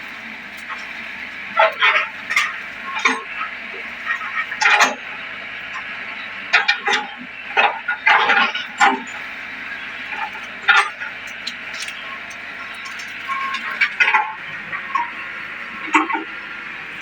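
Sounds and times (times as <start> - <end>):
excavator knocks and clanks: 0.0 - 17.0
excavator running: 0.0 - 17.0.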